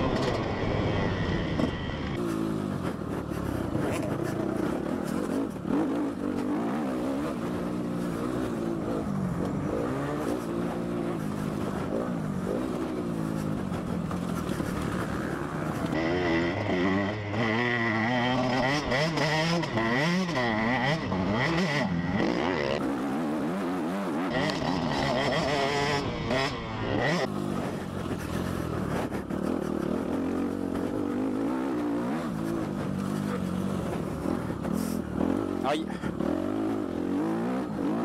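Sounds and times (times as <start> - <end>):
four-stroke motocross bike revving: 0.0 - 38.0
two-stroke motocross bike whining: 0.0 - 38.0.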